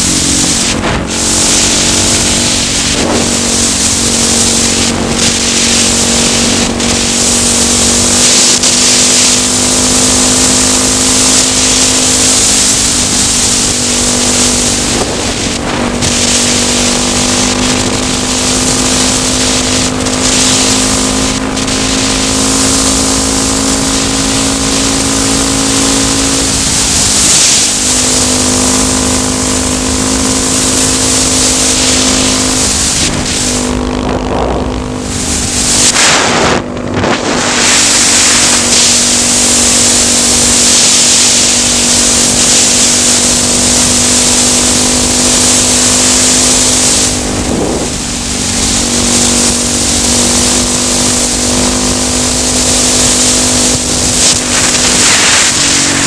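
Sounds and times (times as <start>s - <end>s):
motorcycle engine cruising: 0.0s - 56.0s
wind noise on microphone: 0.0s - 56.0s.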